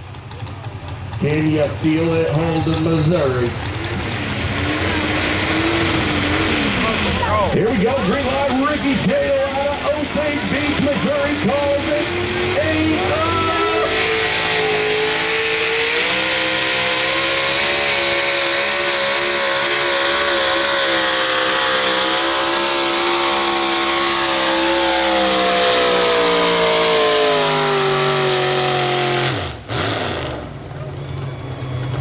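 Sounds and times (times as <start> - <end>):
truck engine at full throttle: 0.0 - 32.0.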